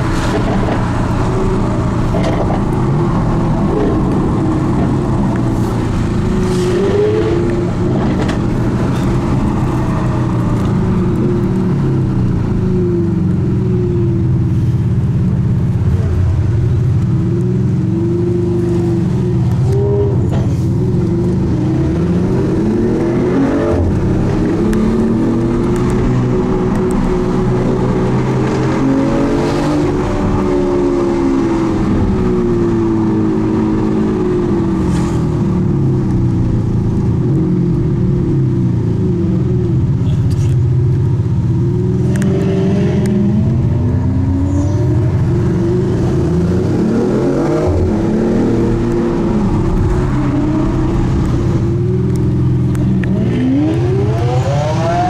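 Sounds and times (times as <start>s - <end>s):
car engine revving through gears: 0.0s - 12.0s, 17.3s - 38.3s, 41.6s - 55.0s.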